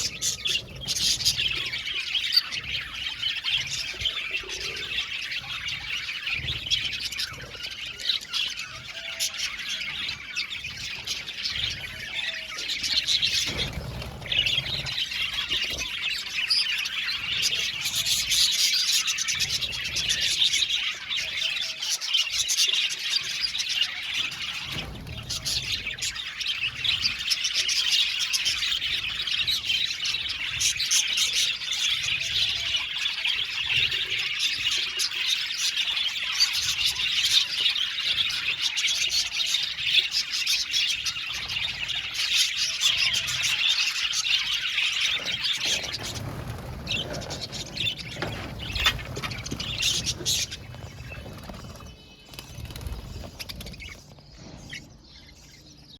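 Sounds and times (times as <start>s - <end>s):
budgerigars chirping and warbling: 0.0s - 55.9s.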